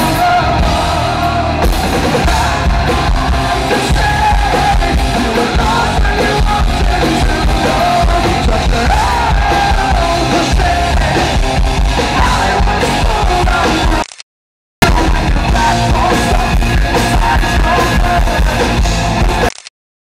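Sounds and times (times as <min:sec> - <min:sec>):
man singing: 0:00.0 - 0:14.0, 0:14.8 - 0:19.5
rock band playing live: 0:00.0 - 0:14.0, 0:14.8 - 0:19.5.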